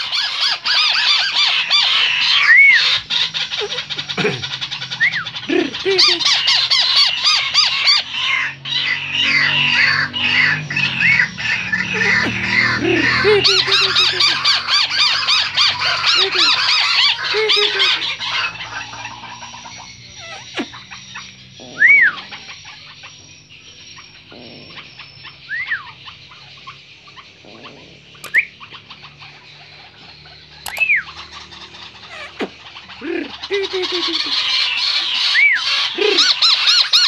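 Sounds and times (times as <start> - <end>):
bird rapid chattering call: 0.0 - 37.0.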